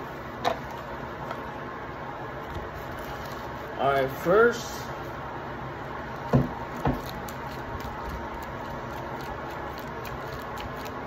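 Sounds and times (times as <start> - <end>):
steady background hiss: 0.0 - 10.9.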